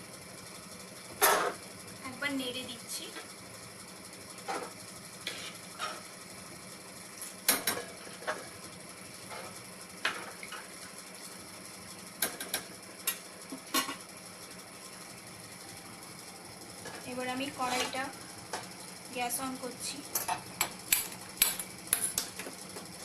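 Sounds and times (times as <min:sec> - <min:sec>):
boiling water: 0:00.0 - 0:23.0.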